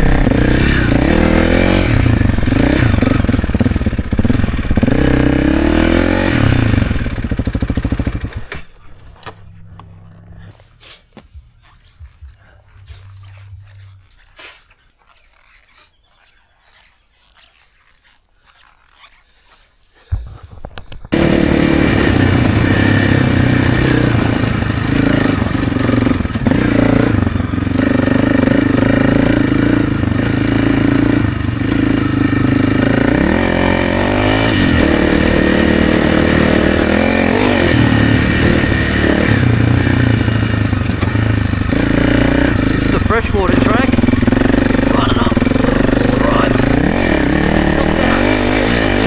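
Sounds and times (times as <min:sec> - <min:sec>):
motorcycle engine revving: 0:00.0 - 0:14.3, 0:21.1 - 0:49.0.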